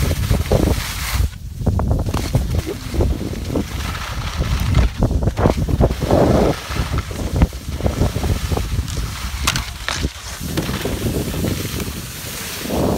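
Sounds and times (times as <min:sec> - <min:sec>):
skis hissing over snow: 0:00.0 - 0:12.9
wind buffeting microphone: 0:00.0 - 0:12.9.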